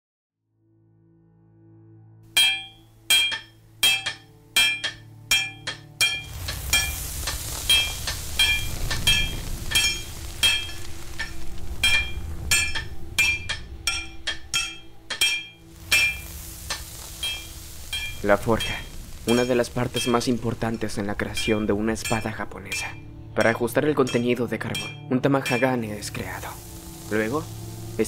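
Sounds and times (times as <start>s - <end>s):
hammer striking metal on anvil: 2.3s - 20.2s, 21.3s - 27.5s
crackling forge fire: 2.3s - 28.0s.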